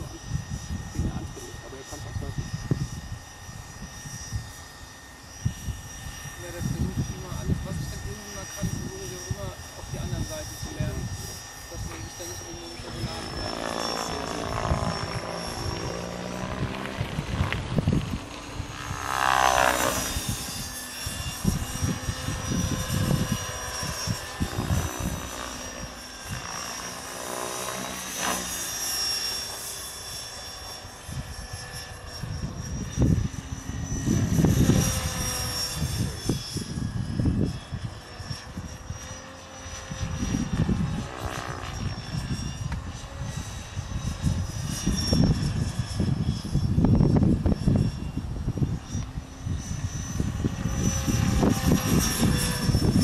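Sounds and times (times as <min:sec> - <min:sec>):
wind on microphone: 0:00.0 - 0:28.6, 0:30.7 - 0:53.0
rc helicopter motor whine: 0:00.0 - 0:53.0.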